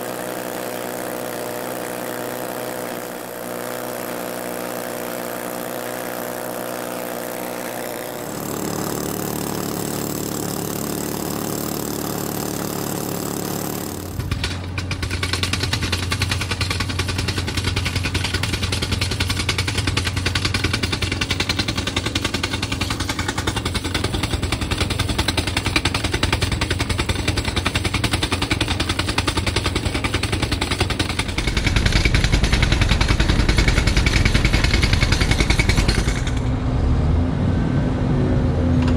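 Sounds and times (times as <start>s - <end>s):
rock drill hammering: 0.0s - 36.5s
engine running: 0.0s - 38.9s.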